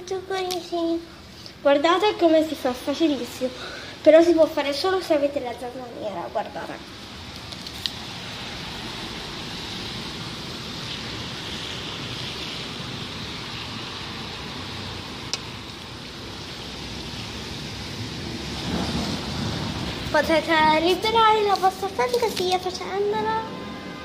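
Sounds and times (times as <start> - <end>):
heavy rain falling: 2.1 - 24.0.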